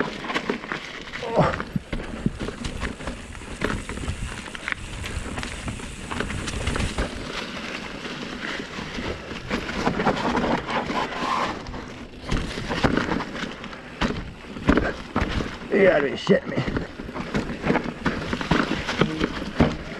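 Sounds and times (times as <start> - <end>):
mountain bike clattering over rocks: 0.0 - 19.9.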